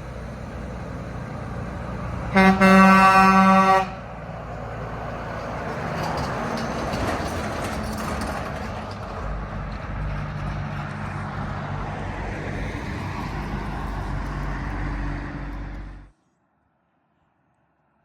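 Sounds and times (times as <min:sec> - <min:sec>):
heavy vehicle engine drone: 0:00.0 - 0:16.2
road noise: 0:00.0 - 0:17.0.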